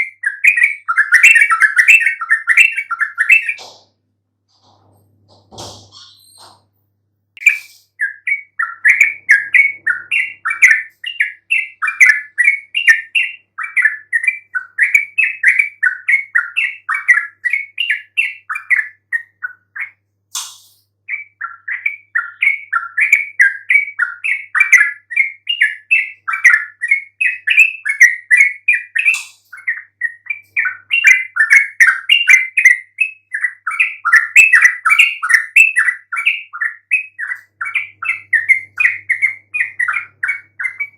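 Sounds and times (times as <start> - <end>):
bulbul singing: 0.0 - 3.7, 7.4 - 40.9.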